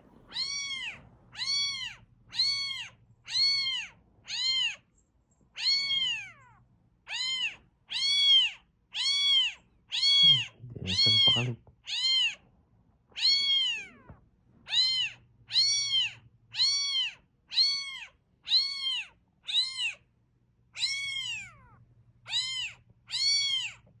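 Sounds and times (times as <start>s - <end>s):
cat meowing: 0.0s - 4.8s, 5.5s - 12.4s, 13.1s - 20.1s, 20.7s - 23.9s
faint low hum: 0.0s - 24.0s.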